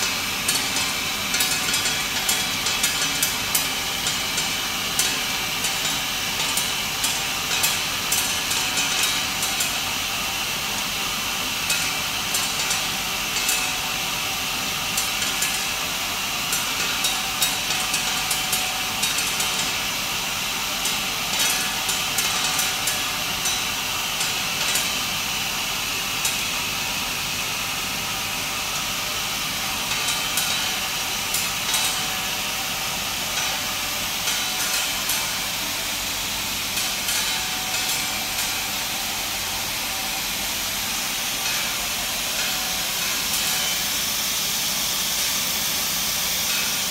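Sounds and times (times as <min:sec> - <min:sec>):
machine hiss: 0:00.0 - 0:46.9.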